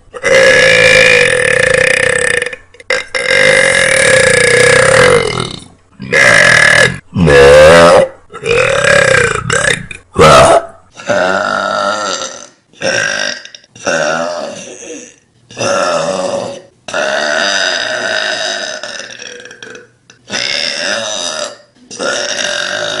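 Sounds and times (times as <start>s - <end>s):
woman burping loudly: 0.2s - 23.0s.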